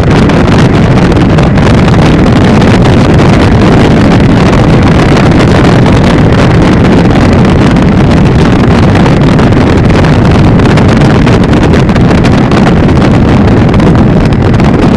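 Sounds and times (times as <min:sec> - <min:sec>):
helicopter rotor and engine rumble: 0:00.0 - 0:14.9
wind buffeting microphone: 0:00.0 - 0:14.9.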